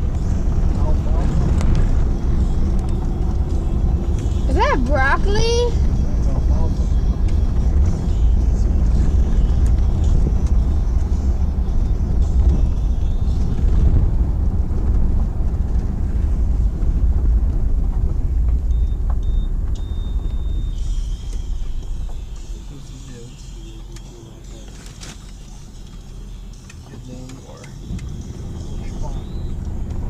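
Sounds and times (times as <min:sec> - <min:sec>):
road and wind noise in car: 0:00.0 - 0:30.0.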